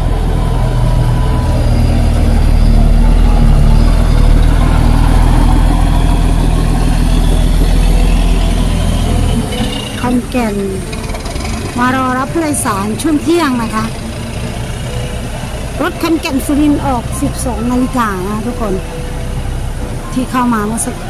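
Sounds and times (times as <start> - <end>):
bus diesel engine driving past: 0.0 - 21.0.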